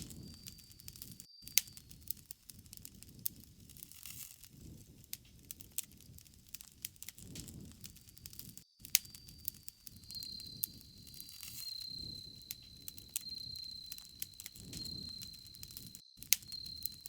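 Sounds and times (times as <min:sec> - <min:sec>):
burning wood popping and snapping: 0:00.0 - 0:10.6, 0:11.4 - 0:17.0
low rumble of flames: 0:00.0 - 0:17.0.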